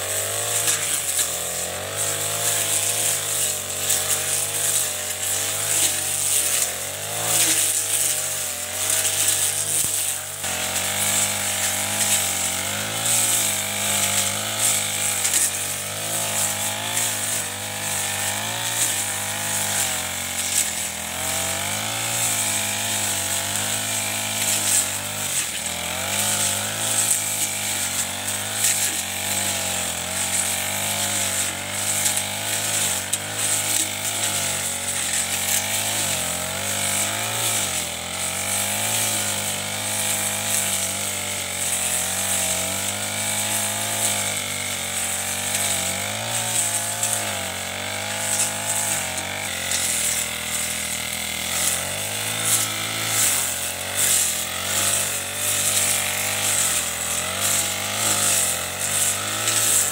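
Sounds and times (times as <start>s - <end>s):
brush cutter engine cutting grass: 0.0s - 59.9s.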